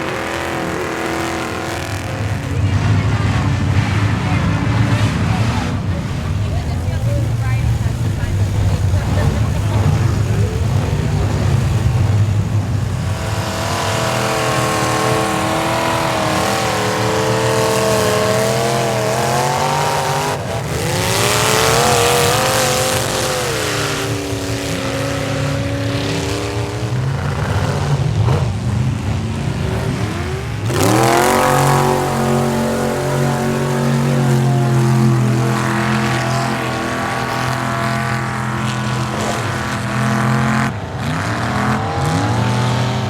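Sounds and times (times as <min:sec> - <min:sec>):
pickup engine revving: 0:00.0 - 0:43.0
spinning tires throwing mud: 0:00.0 - 0:43.0.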